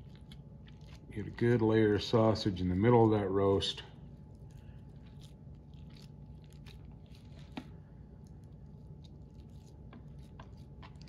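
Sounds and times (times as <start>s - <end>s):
squishing of meat pressed by hand: 0.0s - 11.0s.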